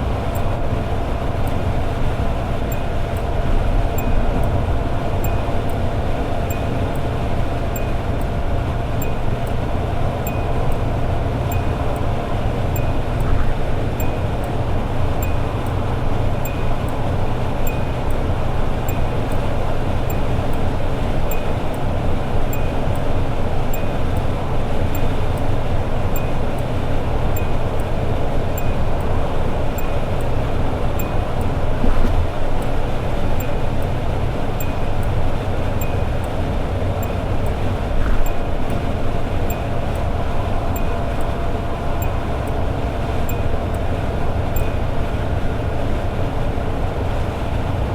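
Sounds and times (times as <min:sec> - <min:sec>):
car engine cruising: 0:00.0 - 0:47.9
road and wind noise: 0:00.0 - 0:47.9.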